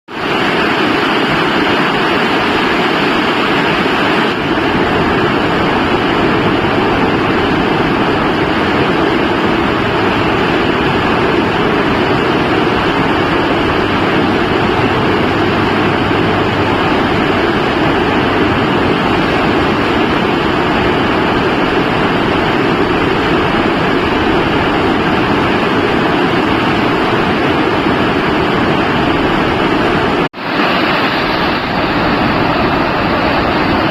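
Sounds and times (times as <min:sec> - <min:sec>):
loud rain falling: 0:00.1 - 0:33.9.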